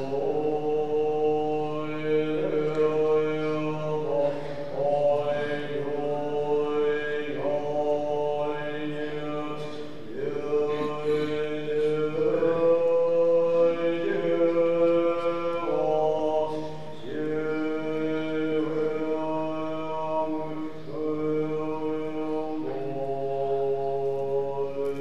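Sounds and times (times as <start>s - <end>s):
man chanting long notes: 0.0s - 25.0s.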